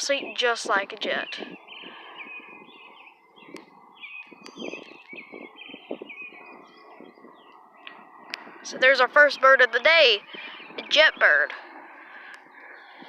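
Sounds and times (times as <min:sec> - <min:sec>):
songbirds chirping and trilling: 0:00.0 - 0:13.0.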